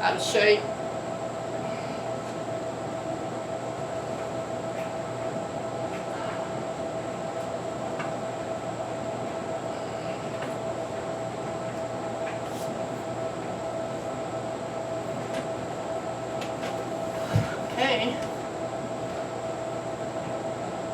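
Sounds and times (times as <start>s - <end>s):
mechanical hum and whine: 0.0s - 20.9s.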